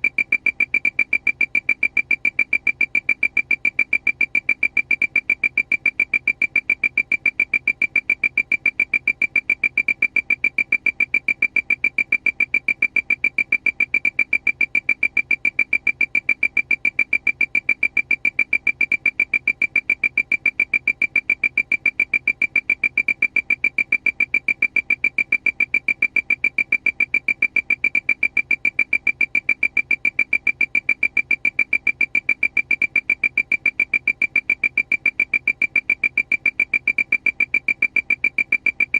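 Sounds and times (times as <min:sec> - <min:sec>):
rapid high-pitched alarm beeps: 0:00.0 - 0:38.9.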